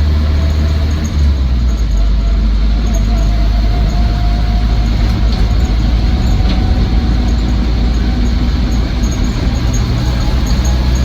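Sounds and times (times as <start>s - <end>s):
car engine running: 0.0s - 11.0s
road and drivetrain drone: 0.0s - 11.0s.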